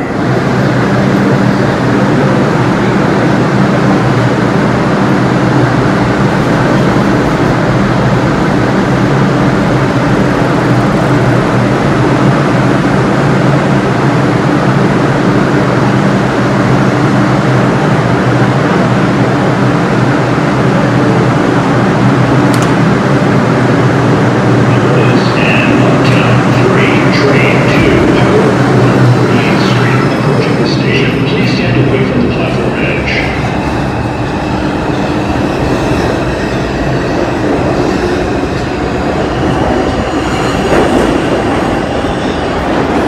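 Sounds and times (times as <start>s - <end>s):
train humming at platform: 0.0s - 43.0s.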